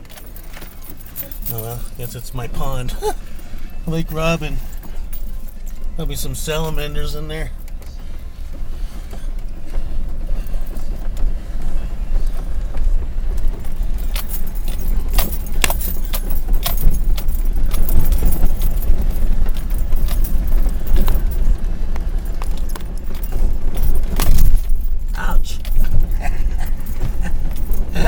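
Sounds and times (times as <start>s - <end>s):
engine and road rumble: 0.0s - 28.0s
rattles and clinks: 0.0s - 28.0s.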